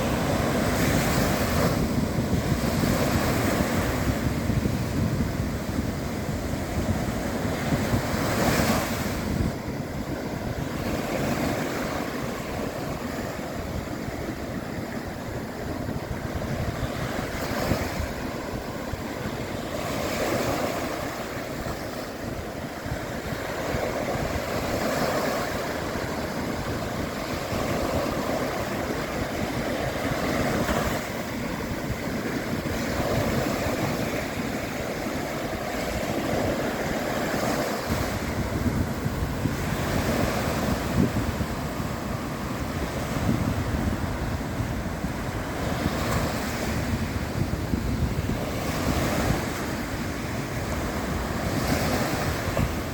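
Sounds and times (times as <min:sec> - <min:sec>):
sea waves breaking on shore: 0:00.0 - 0:52.9
wind noise on microphone: 0:00.0 - 0:52.9.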